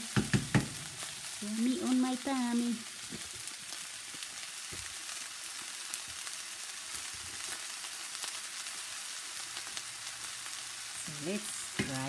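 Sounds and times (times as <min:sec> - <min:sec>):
rice sizzling in a pan: 0:00.0 - 0:12.0.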